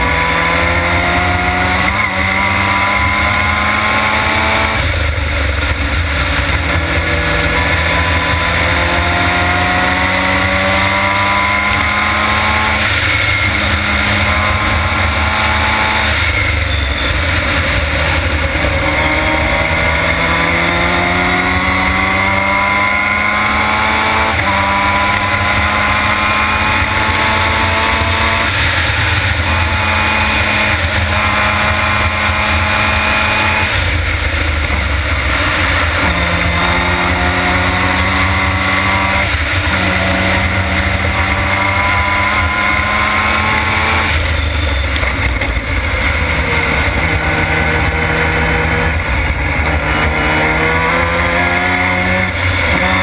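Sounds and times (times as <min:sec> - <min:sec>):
race car engine at full throttle: 0:00.0 - 0:53.0
wind and road noise rumble: 0:00.0 - 0:53.0.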